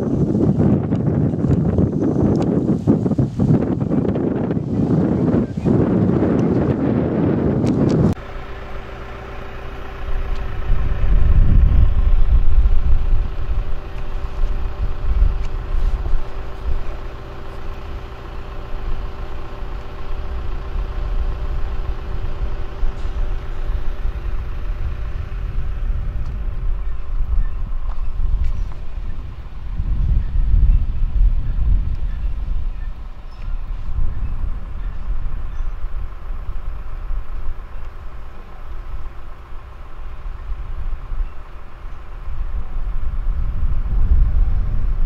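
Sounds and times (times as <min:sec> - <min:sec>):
low rumble: 0:00.0 - 0:45.0
motor humming: 0:00.0 - 0:45.0.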